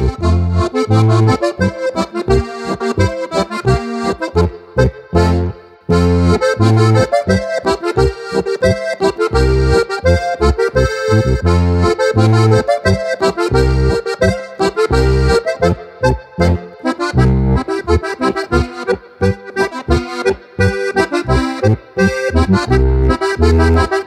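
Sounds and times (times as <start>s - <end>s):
button accordion dance tune: 0.0s - 24.0s.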